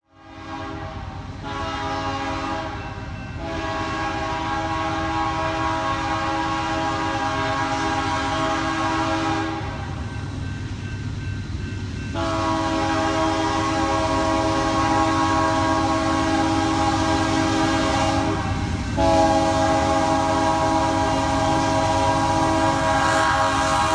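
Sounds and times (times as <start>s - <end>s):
locomotive air horn blasts: 0.1s - 2.8s, 3.4s - 10.0s, 12.2s - 23.9s
passing train rumble: 0.1s - 23.9s.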